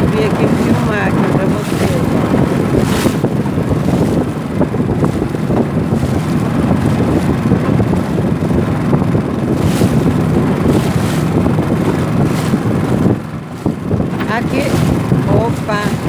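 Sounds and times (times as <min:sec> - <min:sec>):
outboard motor running: 0:00.0 - 0:16.0
water splashes: 0:00.0 - 0:16.0
wind buffeting microphone: 0:00.0 - 0:16.0.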